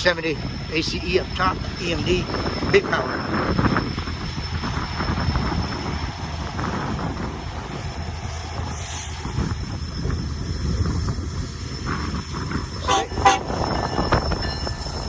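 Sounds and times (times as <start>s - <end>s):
locomotive diesel engines rumbling: 0.0s - 15.0s.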